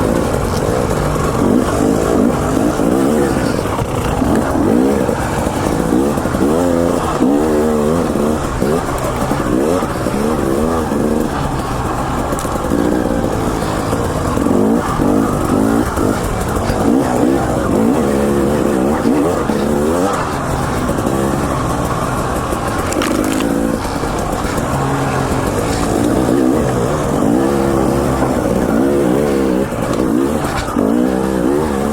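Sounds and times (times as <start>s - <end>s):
two-stroke motorcycle engine revving: 0.0s - 31.9s.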